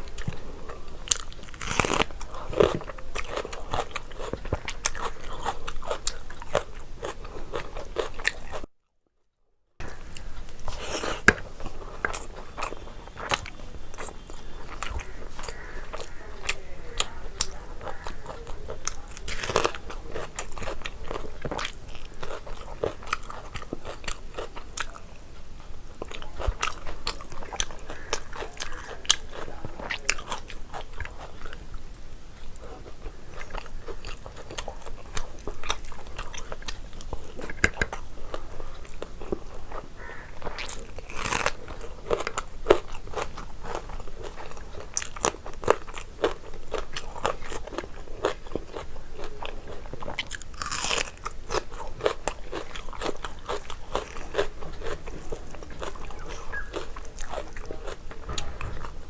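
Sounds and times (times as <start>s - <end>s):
person chewing with crunchy clicks: 0.0s - 8.7s, 9.8s - 59.0s.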